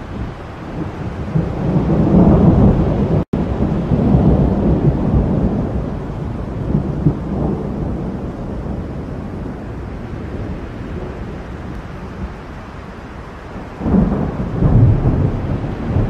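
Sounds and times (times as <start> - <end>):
rolling thunder: 0.0 - 16.0.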